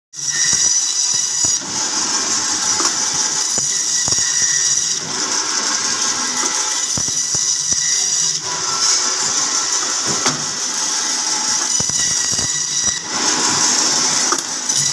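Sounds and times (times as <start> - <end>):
band saw whining: 0.2 - 14.9.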